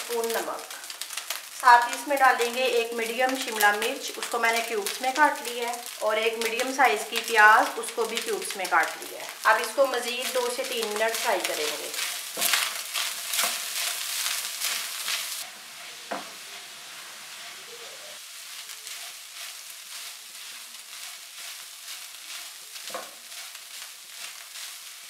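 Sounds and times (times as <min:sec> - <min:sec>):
meat sizzling in oil: 0:00.0 - 0:25.0
spatula scraping pan: 0:02.2 - 0:25.0.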